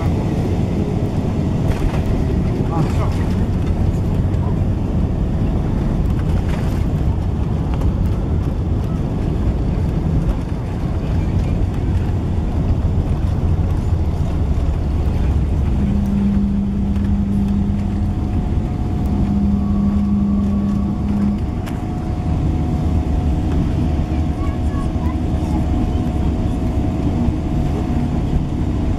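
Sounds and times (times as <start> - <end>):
low rumble of wheels and engines: 0.0 - 28.9
steady hum: 0.0 - 28.9.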